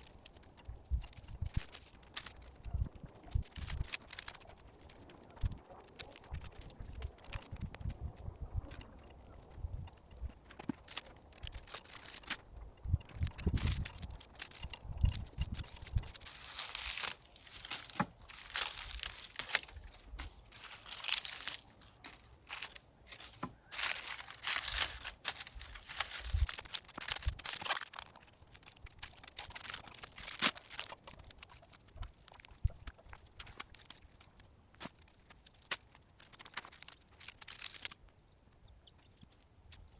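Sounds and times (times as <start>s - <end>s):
dry leaves crackling and tearing: 0.0s - 38.1s.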